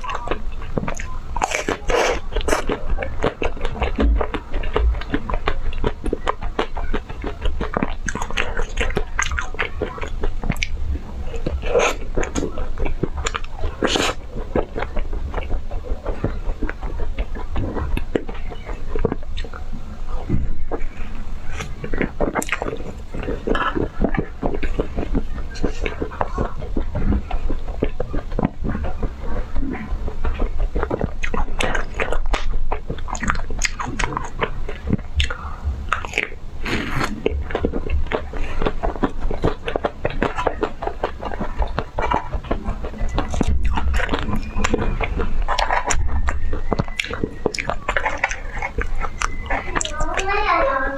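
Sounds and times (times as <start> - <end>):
chewing crunchy ice cream: 0.0 - 50.9.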